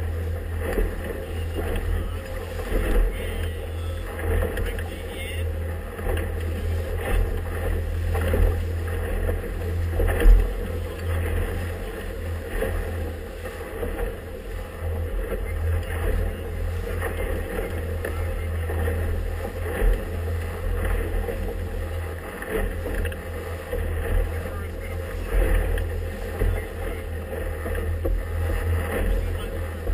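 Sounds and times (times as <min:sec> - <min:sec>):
hull knocking against waves: 0:00.0 - 0:29.9
motorboat engine rumble: 0:00.0 - 0:29.9.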